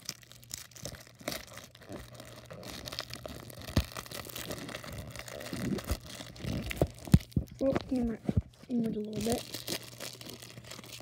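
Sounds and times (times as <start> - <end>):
paper wrapper crinkling and tearing: 0.0 - 11.0.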